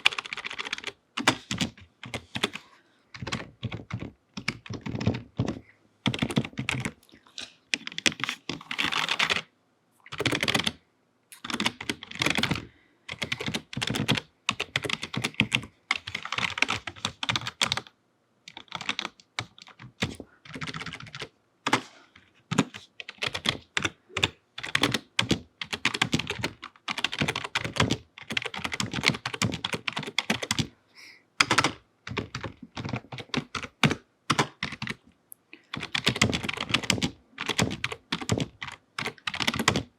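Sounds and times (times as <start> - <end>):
fast typing on keyboard: 0.0 - 7.0, 7.7 - 9.5, 10.1 - 10.8, 11.4 - 17.9, 18.5 - 30.7, 31.4 - 35.0, 35.7 - 39.9.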